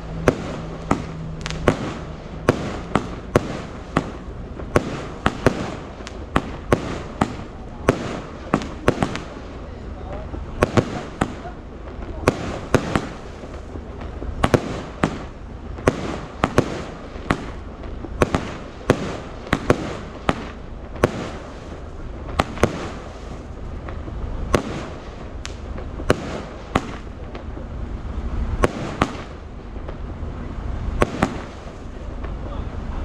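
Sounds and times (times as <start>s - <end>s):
fireworks bangs: 0.0s - 33.0s
fireworks crackling hiss: 0.0s - 33.0s.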